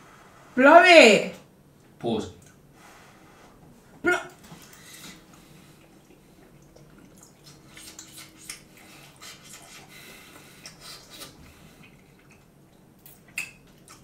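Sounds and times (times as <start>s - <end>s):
faint steady hum: 0.0s - 14.0s
people chewing and eating: 2.4s - 14.0s.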